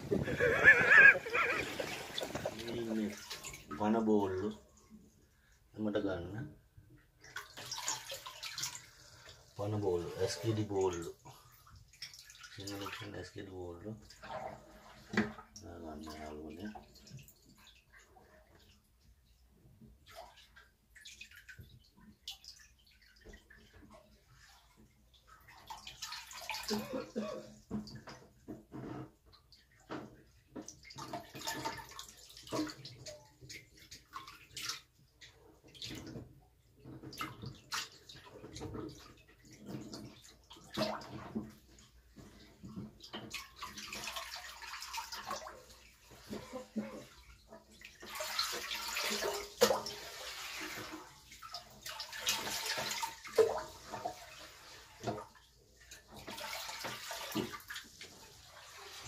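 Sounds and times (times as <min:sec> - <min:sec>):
water splashing in a tank: 0:00.0 - 0:59.0.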